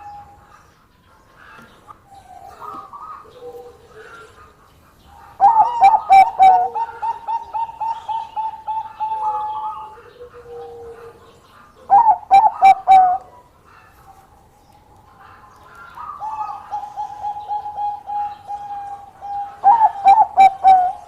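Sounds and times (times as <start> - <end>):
dove cooing: 1.4 - 21.0.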